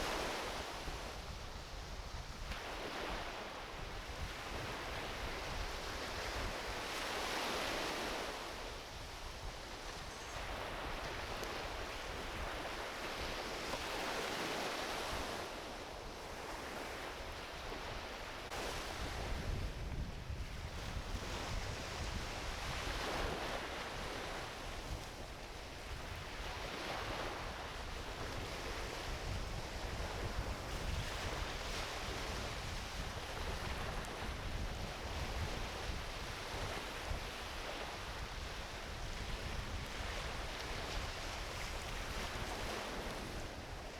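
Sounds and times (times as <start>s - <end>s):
small waves washing onto beach: 0.0s - 43.9s
wind rumble on microphone: 0.0s - 43.9s.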